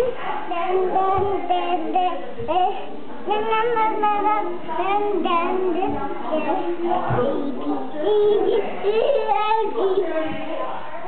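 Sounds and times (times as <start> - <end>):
toddler singing: 0.0 - 10.7.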